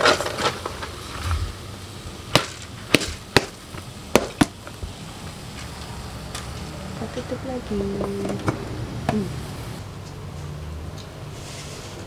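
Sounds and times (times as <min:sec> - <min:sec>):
fire popping: 0:00.0 - 0:09.8
low steady background noise: 0:00.0 - 0:12.0
wood fire crackling: 0:00.0 - 0:12.0.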